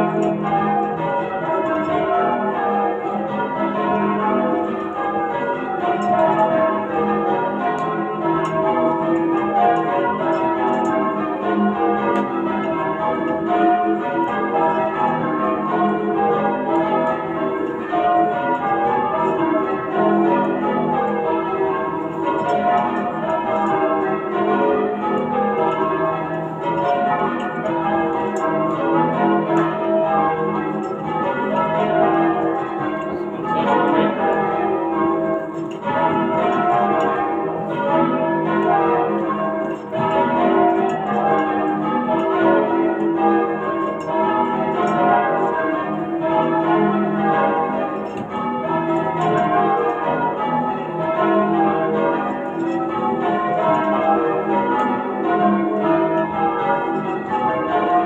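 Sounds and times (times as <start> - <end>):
church bells change ringing: 0.0 - 58.0.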